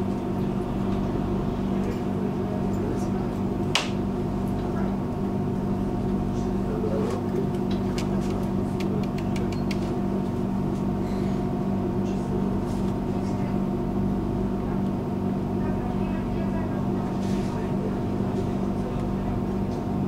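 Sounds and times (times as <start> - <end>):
tram electrical hum: 0.0 - 20.0.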